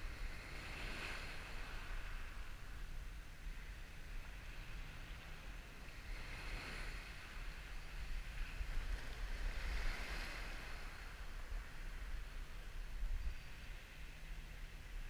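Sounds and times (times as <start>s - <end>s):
surf waves washing up beach: 0.0s - 15.0s
wind rumble on microphone: 0.0s - 15.0s.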